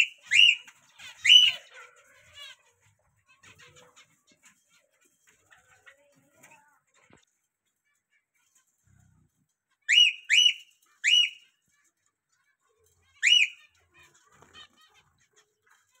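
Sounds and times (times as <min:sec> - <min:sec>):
finch calls: 0:00.0 - 0:07.2, 0:07.9 - 0:16.0
soft bird chattering: 0:00.0 - 0:16.0.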